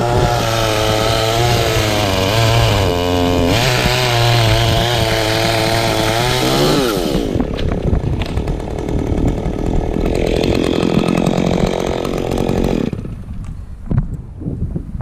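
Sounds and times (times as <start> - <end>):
chainsaw cutting wood: 0.0 - 13.5.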